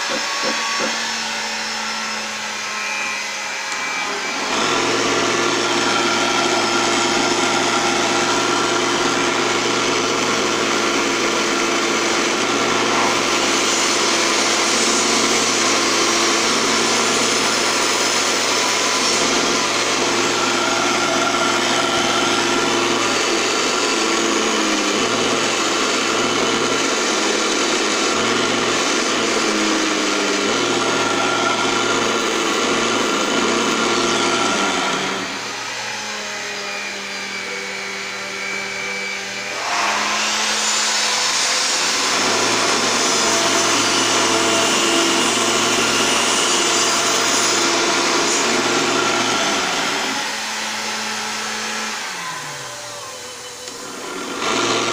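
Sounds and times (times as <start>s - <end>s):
lathe motor whine: 0.0s - 54.9s.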